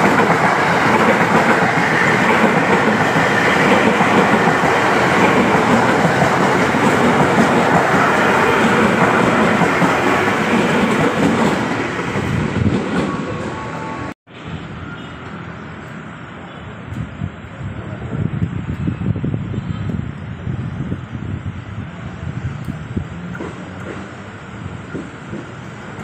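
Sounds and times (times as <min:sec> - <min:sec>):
electric train running past: 0:00.0 - 0:26.0.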